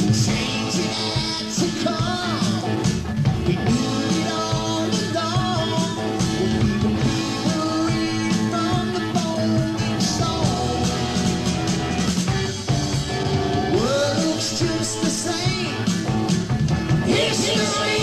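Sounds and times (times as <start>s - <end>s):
rock music from vinyl record: 0.0s - 18.0s.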